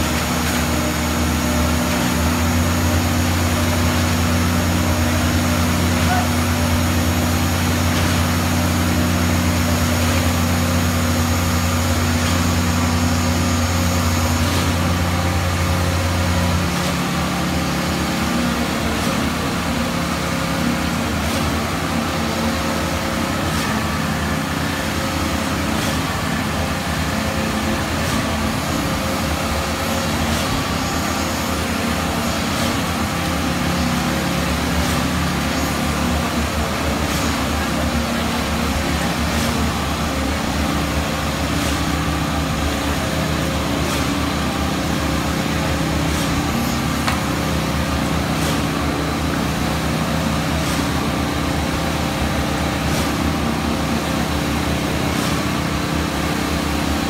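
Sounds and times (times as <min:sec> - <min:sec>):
concrete pump humming: 0:00.0 - 0:57.0.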